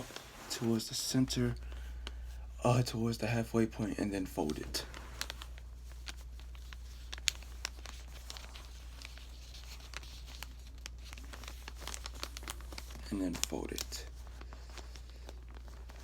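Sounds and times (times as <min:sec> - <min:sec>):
paper crinkling and rustling: 0:00.0 - 0:02.4, 0:04.0 - 0:16.0.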